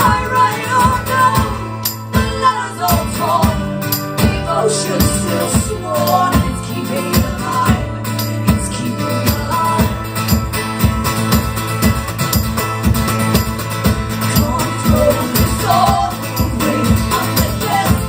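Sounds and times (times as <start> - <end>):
strummed guitar: 0.0 - 18.0.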